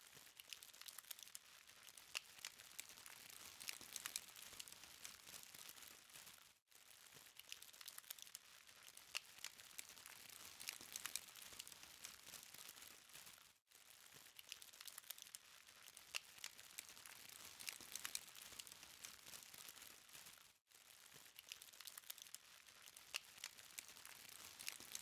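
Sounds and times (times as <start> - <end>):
charcoal fire crackling: 0.2 - 25.0.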